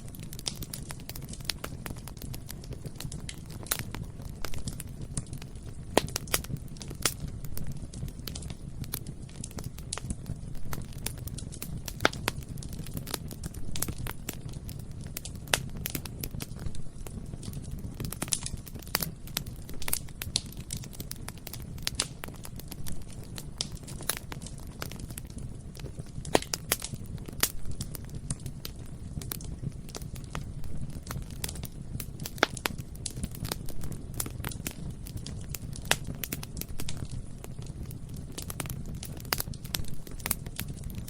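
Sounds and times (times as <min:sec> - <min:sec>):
bonfire flames rumbling: 0:00.0 - 0:41.0
burning wood crackling and popping: 0:00.0 - 0:41.0.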